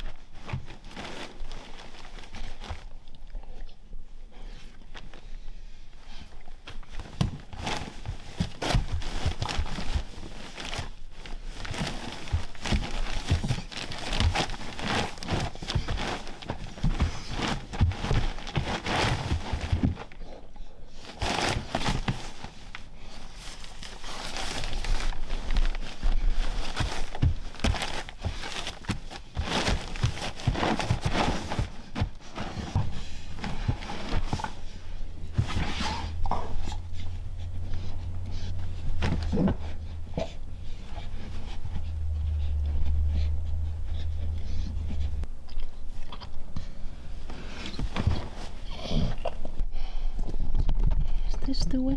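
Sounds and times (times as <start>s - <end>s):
dog digging and rustling blankets: 0.0s - 3.6s, 4.3s - 49.5s.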